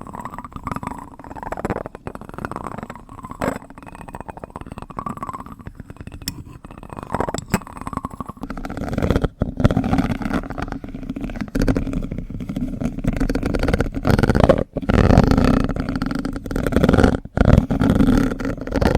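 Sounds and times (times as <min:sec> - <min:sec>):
plastic spoon rubbing and clicking: 0:00.0 - 0:18.9.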